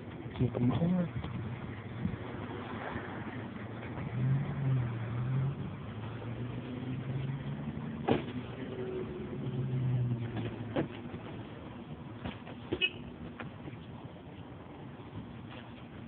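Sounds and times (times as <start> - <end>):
vehicle engines humming: 0.0 - 16.0.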